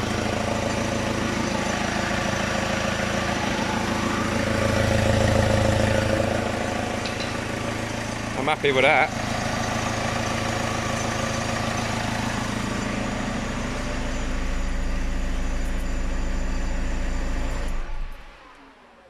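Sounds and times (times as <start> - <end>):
diesel car engine idling: 0.0 - 18.4.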